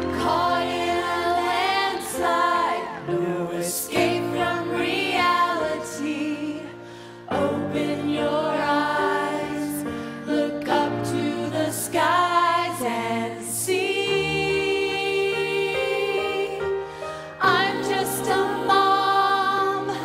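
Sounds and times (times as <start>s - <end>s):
voices singing in harmony: 0.0s - 20.0s.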